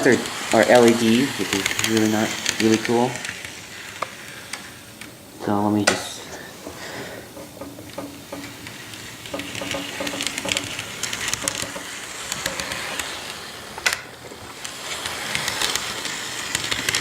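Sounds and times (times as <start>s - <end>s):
model train motor whirring: 0.0s - 17.0s
wheels clicking and rattling: 0.0s - 17.0s.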